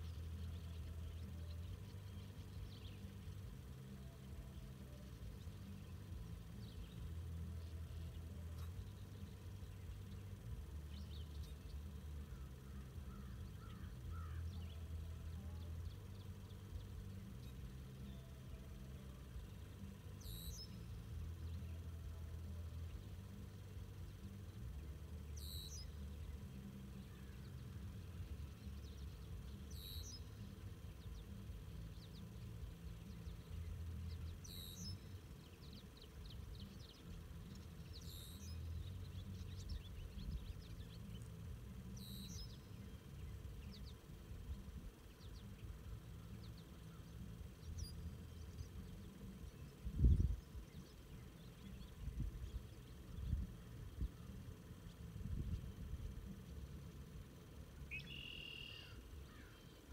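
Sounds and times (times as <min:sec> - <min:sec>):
faint bird chirps: 0:00.0 - 0:59.9
steady low rumble: 0:00.0 - 0:59.9.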